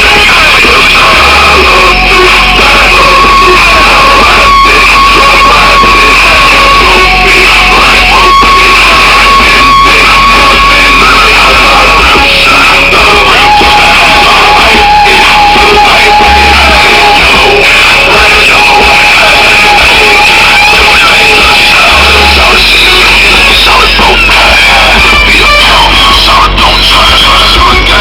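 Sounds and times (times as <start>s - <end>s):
loud distorted bass music: 0.0s - 28.0s.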